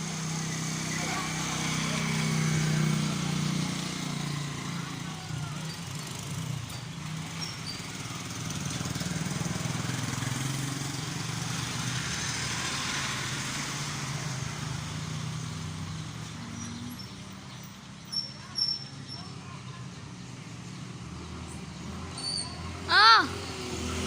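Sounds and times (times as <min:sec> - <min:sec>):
motorcycle engine running: 0:00.0 - 0:19.9
road and wind noise: 0:00.0 - 0:24.0.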